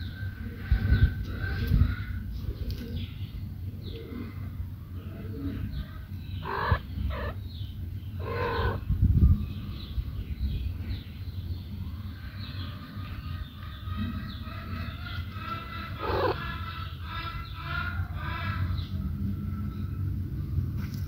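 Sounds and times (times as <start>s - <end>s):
chickens clucking: 0.0s - 10.2s, 11.7s - 19.1s
steady low rumble: 0.0s - 21.0s.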